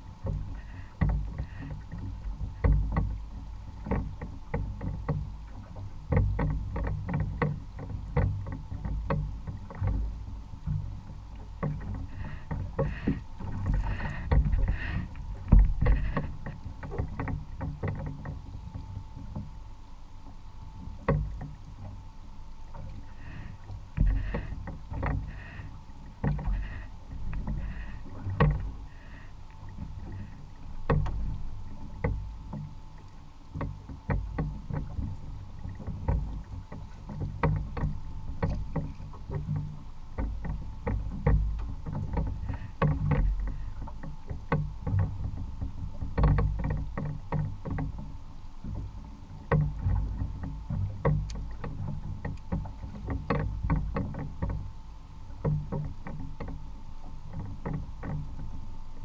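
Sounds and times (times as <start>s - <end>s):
water lapping against boat hull: 0.0s - 59.0s
low thumps and knocks: 0.2s - 19.6s, 20.3s - 22.0s, 22.6s - 32.7s, 33.5s - 56.7s.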